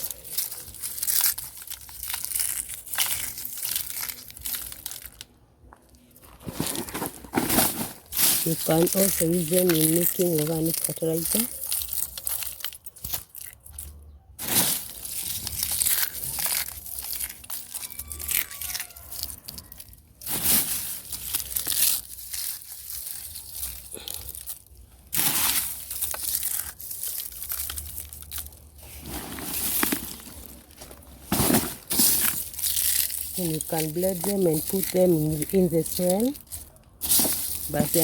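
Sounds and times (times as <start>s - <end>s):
eggshells crunching by hand: 0.0s - 5.4s, 6.2s - 38.0s.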